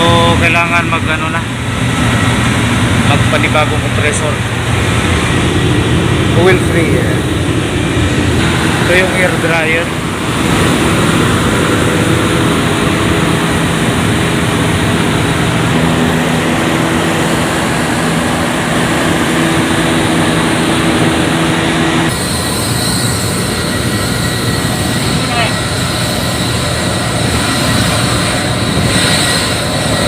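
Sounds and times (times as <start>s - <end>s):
air compressor humming: 0.0s - 30.0s
steady machine tones: 0.0s - 30.0s.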